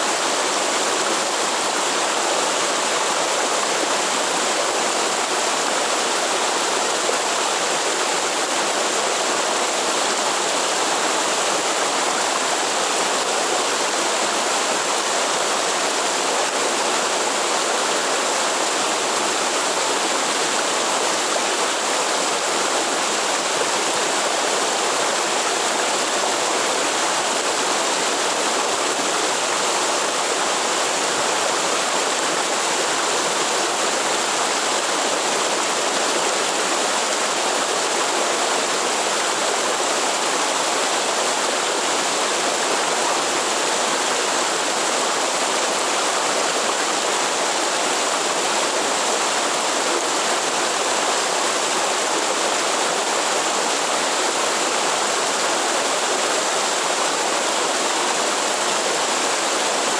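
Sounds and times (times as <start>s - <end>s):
waterfall roaring over rocks: 0.0s - 59.9s.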